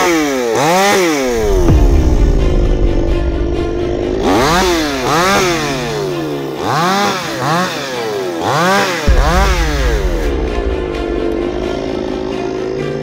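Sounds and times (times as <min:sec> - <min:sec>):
chainsaw revving in bursts: 0:00.0 - 0:03.0, 0:03.6 - 0:13.0.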